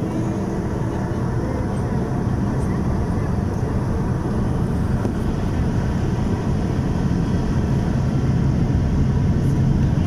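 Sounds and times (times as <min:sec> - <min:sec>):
jet engine drone in cabin: 0:00.0 - 0:10.0.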